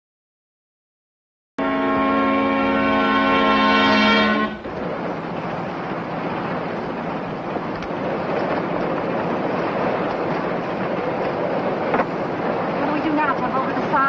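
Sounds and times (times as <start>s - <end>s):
water rushing along hull: 1.6s - 14.0s
wind across deck: 1.6s - 14.0s.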